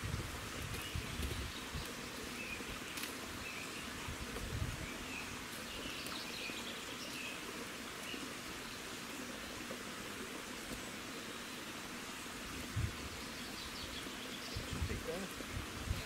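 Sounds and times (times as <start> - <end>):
steady outdoor hiss: 0.0 - 16.0
small birds chirping: 0.6 - 16.0.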